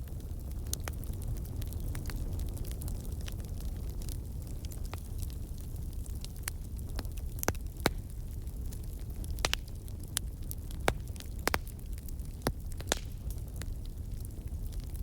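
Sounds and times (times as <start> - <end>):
fire popping and snapping: 0.0 - 15.0
low rumble of flames: 0.0 - 15.0.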